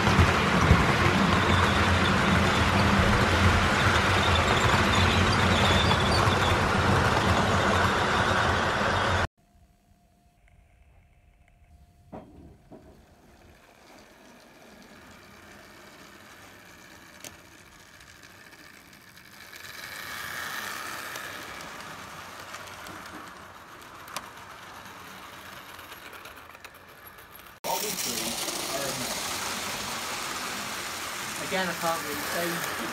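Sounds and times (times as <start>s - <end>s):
model train whirring: 0.0s - 9.3s, 12.7s - 32.9s.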